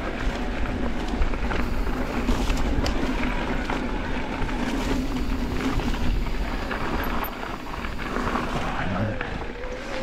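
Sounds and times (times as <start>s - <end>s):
gravel and bike rattles: 0.0s - 10.0s
tyre noise on dirt: 0.0s - 10.0s.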